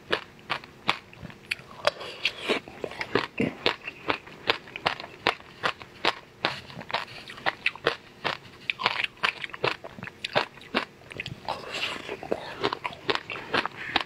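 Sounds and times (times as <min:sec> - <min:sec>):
crunchy ice pop chewing: 0:00.1 - 0:14.0.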